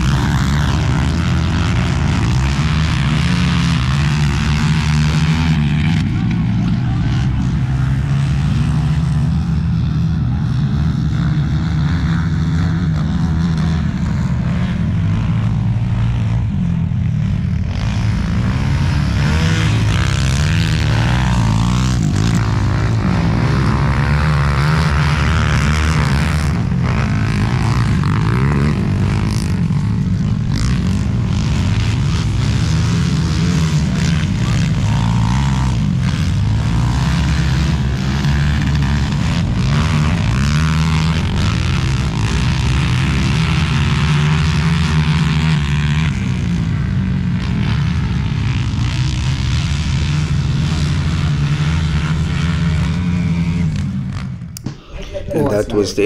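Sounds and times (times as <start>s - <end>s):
racing motorcycle engines revving: 0.0s - 56.0s.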